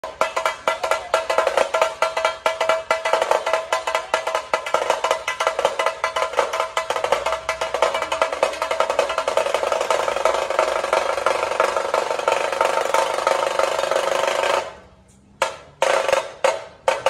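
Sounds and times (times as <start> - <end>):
small kettle drums beaten fast: 0.0 - 14.8, 15.4 - 17.0.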